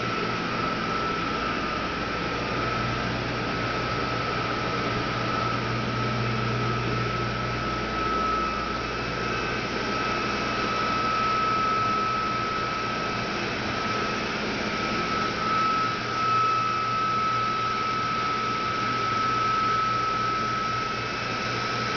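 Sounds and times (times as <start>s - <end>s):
high whine: 0.0s - 21.9s
rush of air from blowers: 0.0s - 21.9s.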